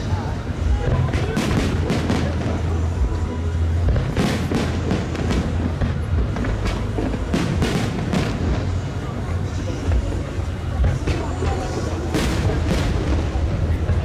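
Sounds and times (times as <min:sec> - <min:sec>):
fireworks bursting: 0:00.0 - 0:14.0
steady low rumble: 0:00.0 - 0:14.0.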